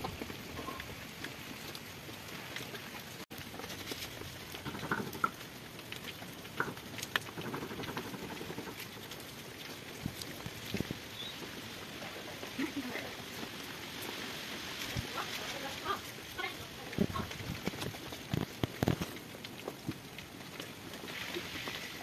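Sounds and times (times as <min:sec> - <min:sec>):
ducks pecking at food: 0:00.0 - 0:22.0.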